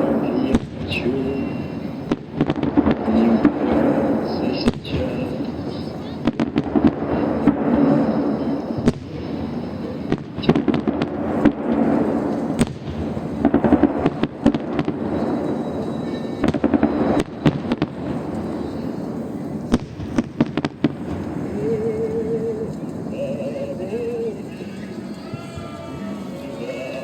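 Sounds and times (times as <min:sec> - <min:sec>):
continuous rumble: 0:00.0 - 0:27.0
fireworks bangs and crackling: 0:00.0 - 0:27.0.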